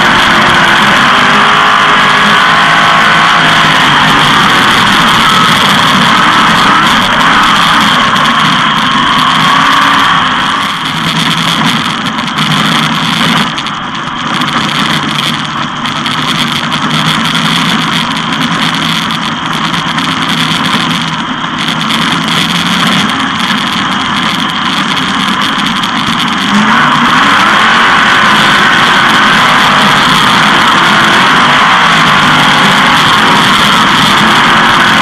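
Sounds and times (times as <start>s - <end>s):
dense rushing noise: 0.0s - 35.0s
race car engine running: 0.0s - 35.0s.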